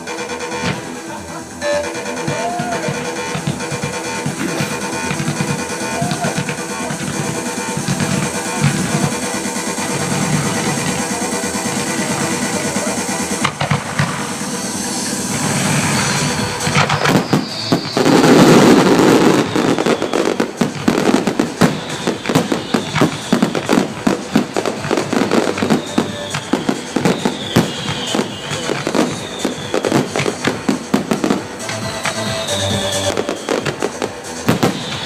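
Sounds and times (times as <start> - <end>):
fireworks bangs and crackles: 0.0 - 35.0
music playing: 0.0 - 35.0
falling firework whistles: 1.6 - 35.0.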